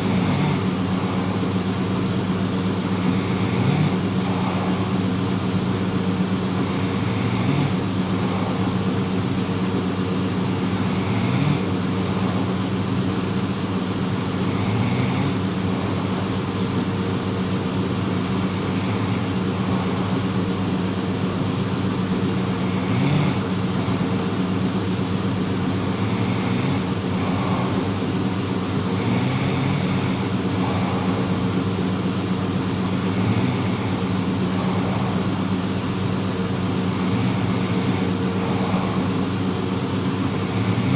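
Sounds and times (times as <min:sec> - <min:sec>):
person snoring: 0:00.0 - 0:09.4, 0:10.2 - 0:12.8, 0:14.0 - 0:24.7, 0:25.3 - 0:40.9
loud mechanical hum: 0:00.0 - 0:40.9.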